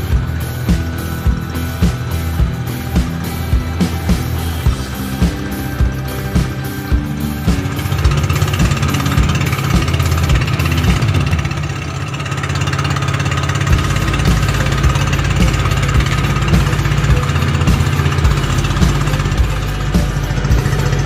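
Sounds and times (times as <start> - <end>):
boat engine droning: 0.0 - 21.0
deep low hum: 0.0 - 21.0.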